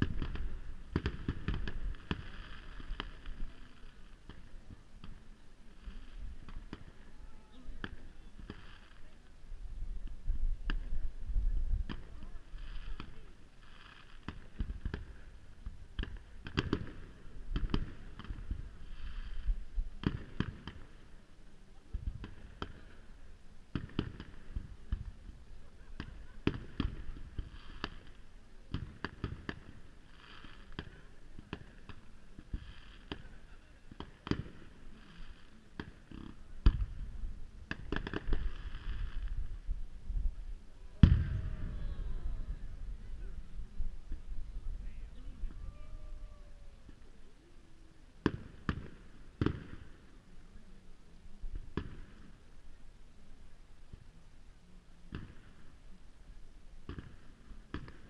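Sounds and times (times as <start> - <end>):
fireworks bursting: 0.0 - 54.5, 55.1 - 58.0.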